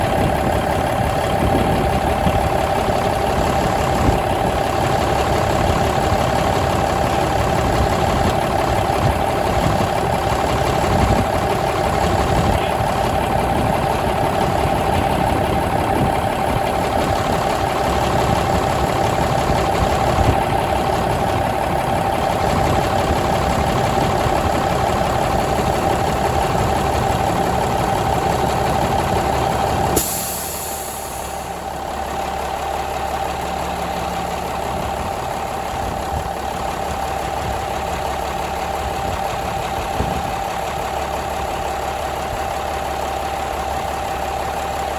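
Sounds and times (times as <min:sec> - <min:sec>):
diesel engine running steadily: 0:00.0 - 0:44.9.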